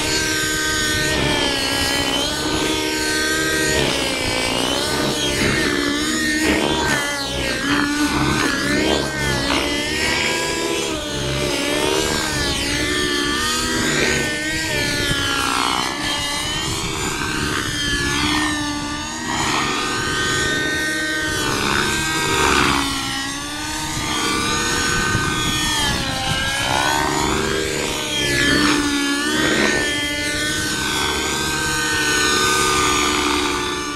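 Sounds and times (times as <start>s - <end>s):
model helicopter rotor whine: 0.0s - 33.9s.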